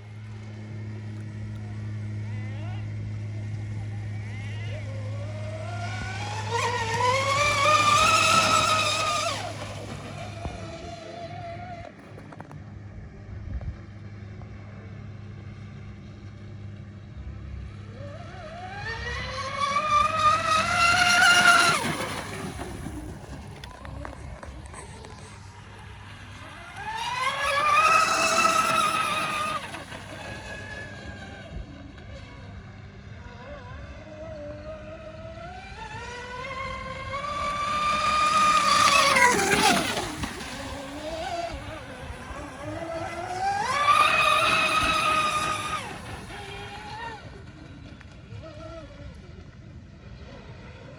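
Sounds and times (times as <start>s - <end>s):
electric motor whine: 0.0s - 12.6s, 15.4s - 50.9s.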